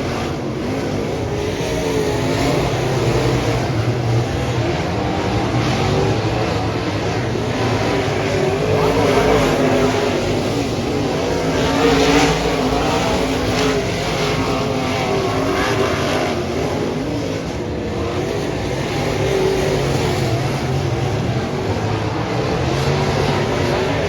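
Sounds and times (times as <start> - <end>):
race car engines running: 0.0 - 24.0.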